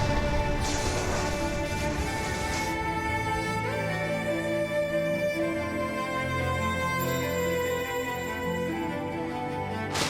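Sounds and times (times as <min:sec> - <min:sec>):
slow orchestral music: 0:00.0 - 0:10.0.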